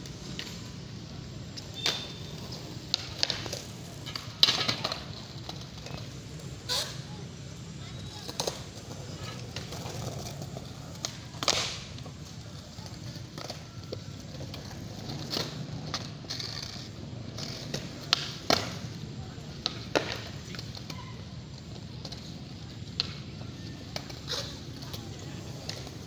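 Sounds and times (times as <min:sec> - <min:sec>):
skateboard decks clacking: 0:00.0 - 0:26.0.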